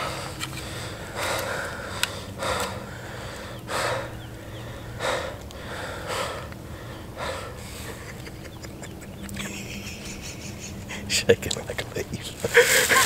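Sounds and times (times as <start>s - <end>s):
man breathing heavily: 0.0s - 11.2s.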